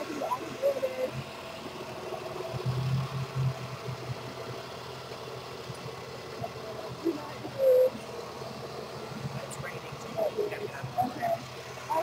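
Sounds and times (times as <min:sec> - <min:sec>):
street traffic: 0:00.0 - 0:12.0
vehicle engine idling: 0:00.0 - 0:12.0.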